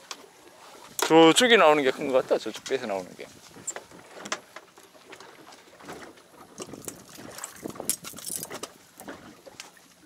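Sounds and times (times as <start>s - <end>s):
water slapping against boat: 0.0s - 10.0s.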